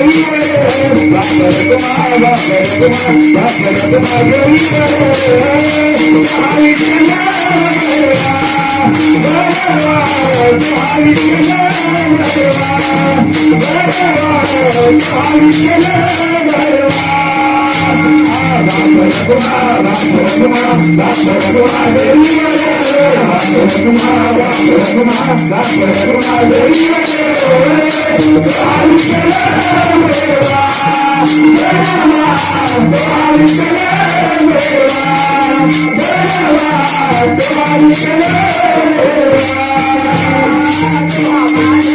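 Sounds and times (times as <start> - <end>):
metal jingles beat: 0.0 - 41.9
person singing devotional melody: 0.0 - 41.9.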